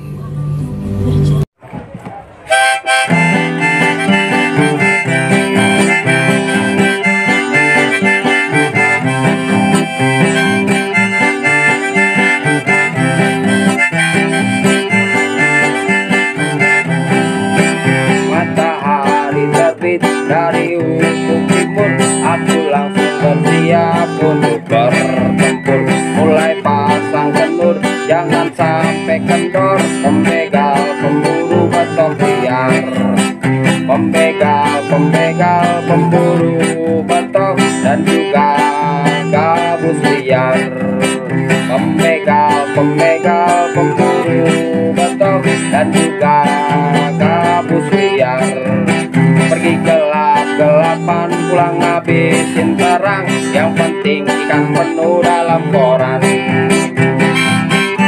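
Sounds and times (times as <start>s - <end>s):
upbeat country guitar music: 2.1s - 58.0s.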